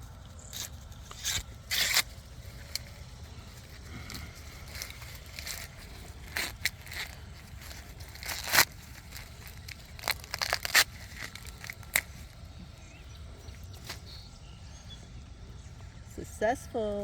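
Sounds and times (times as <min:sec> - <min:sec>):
dry leaves and husks rustling: 0:00.0 - 0:17.0.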